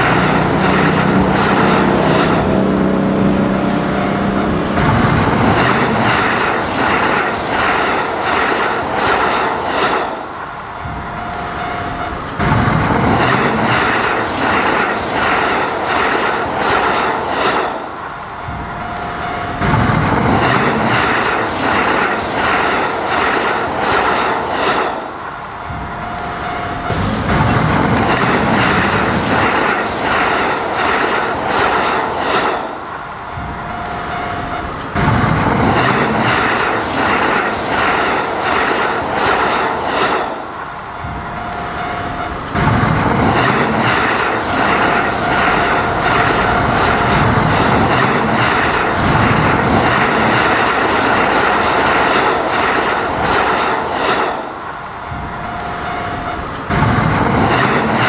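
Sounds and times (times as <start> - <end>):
level crossing warning bell: 0.0 - 9.5, 10.4 - 53.8, 54.4 - 58.0
train wheels clattering over rail joints: 0.0 - 58.0.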